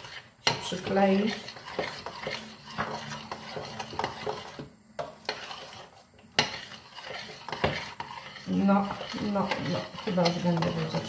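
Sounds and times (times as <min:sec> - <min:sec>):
utensil scraping a pot: 0:00.0 - 0:11.0.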